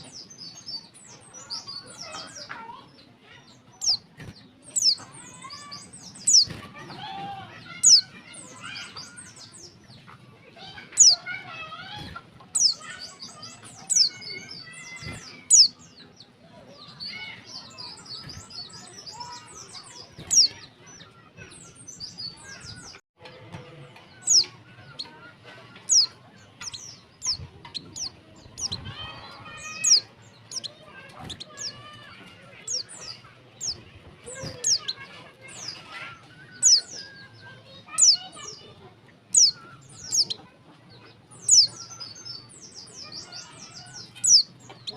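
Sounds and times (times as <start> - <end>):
soft bird twittering: 0.0 - 23.0, 24.0 - 44.9.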